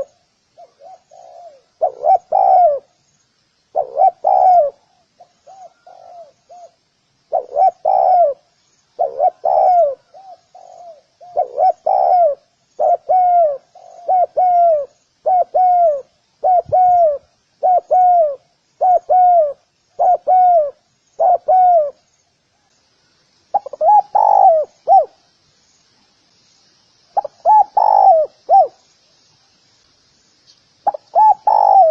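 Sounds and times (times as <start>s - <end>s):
dove cooing: 0.0s - 2.9s, 3.7s - 22.0s, 23.5s - 25.2s, 27.2s - 28.8s, 30.8s - 31.9s.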